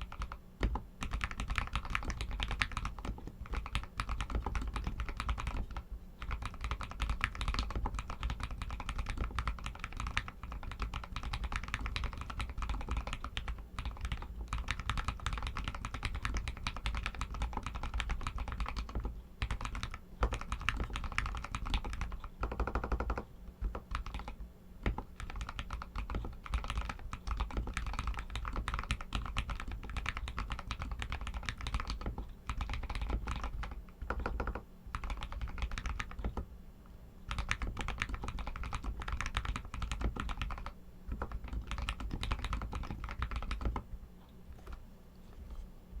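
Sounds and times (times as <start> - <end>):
mechanical keyboard typing: 0.0 - 36.5, 37.3 - 43.9, 44.6 - 44.8.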